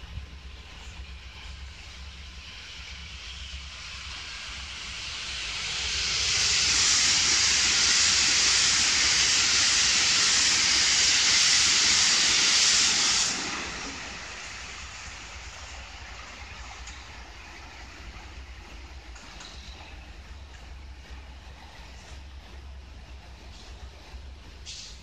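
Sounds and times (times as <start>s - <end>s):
train wheels hissing on rails: 0.0s - 25.0s.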